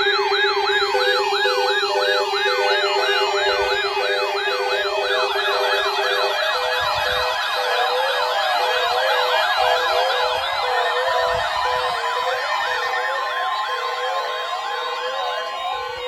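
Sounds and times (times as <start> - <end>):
rapid beeping tone: 0.0 - 13.5
electronic sirens yelping: 0.0 - 16.0.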